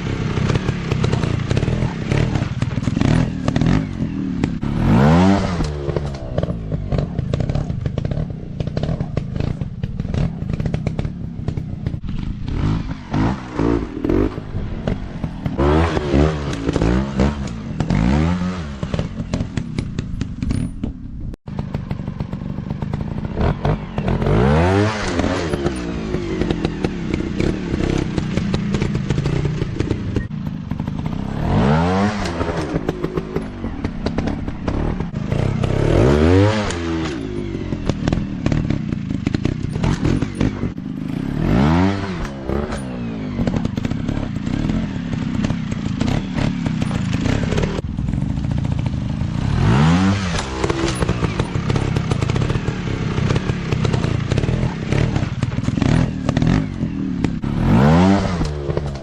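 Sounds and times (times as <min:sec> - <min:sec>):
clatter and thuds: 0:00.0 - 0:59.0
dirt bike engines revving: 0:00.0 - 0:59.0.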